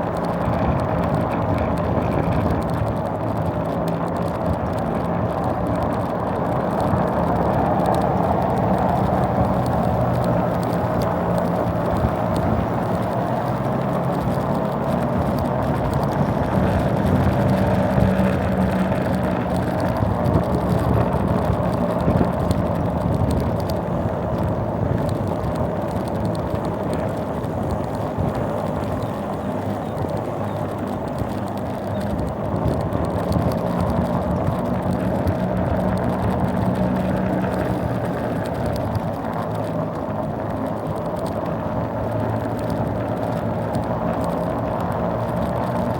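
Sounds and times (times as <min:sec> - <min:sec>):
mini bike engine running: 0:00.0 - 0:45.9.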